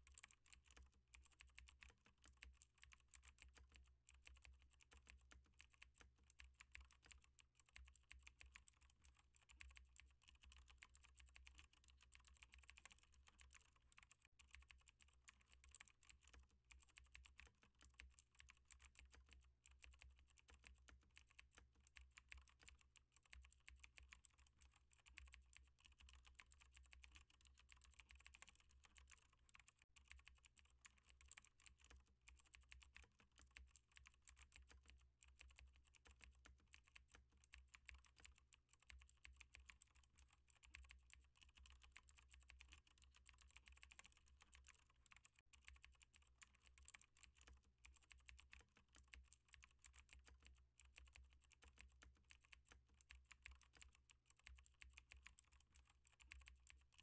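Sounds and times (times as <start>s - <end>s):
typing on computer keyboard: 0.0s - 57.0s.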